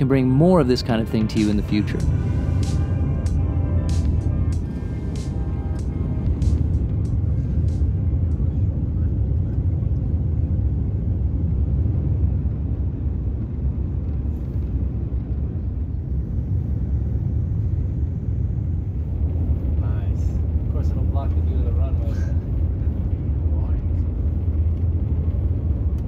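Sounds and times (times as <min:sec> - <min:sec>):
jet cabin engine and airflow rumble: 0:00.0 - 0:26.0.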